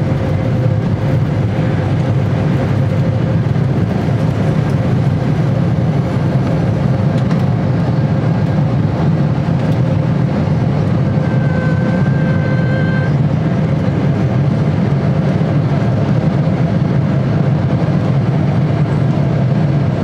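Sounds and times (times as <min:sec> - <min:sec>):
airliner cabin roar: 0:00.0 - 0:20.0.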